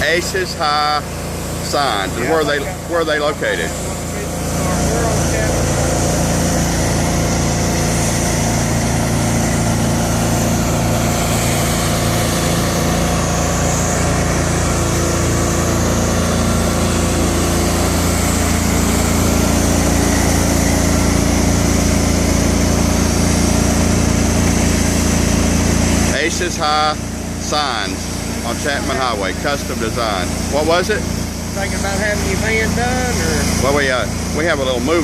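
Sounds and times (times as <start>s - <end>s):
pressure washer engine running: 0.0s - 35.0s.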